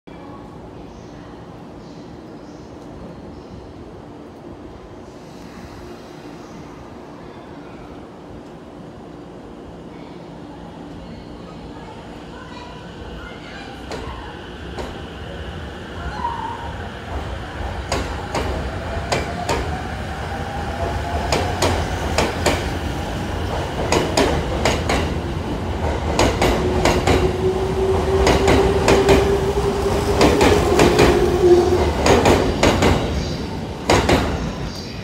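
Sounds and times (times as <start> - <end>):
low train rumble: 0.1 - 35.0.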